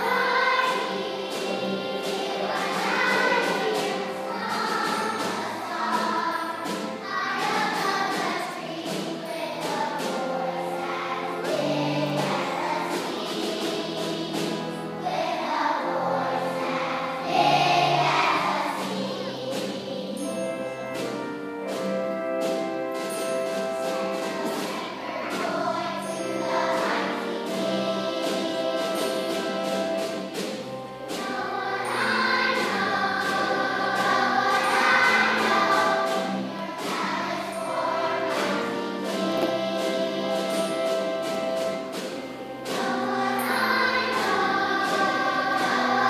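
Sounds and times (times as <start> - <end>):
children's choir singing: 0.0 - 46.0.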